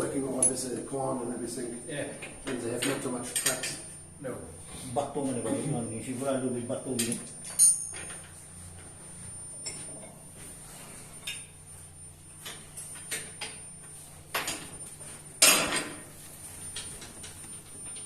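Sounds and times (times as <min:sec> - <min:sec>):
low hum of ship machinery: 0:00.0 - 0:18.0.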